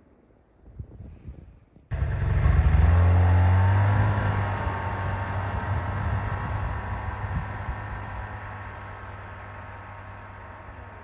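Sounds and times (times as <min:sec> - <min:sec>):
snowmobile engine pulling away: 0:01.9 - 0:11.0.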